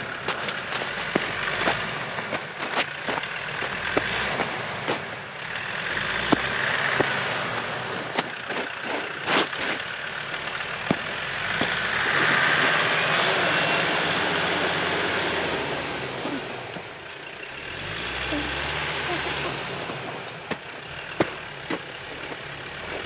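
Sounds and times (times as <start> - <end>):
car engine running: 0.0 - 23.0
tyres crackling on rough road: 0.0 - 23.0.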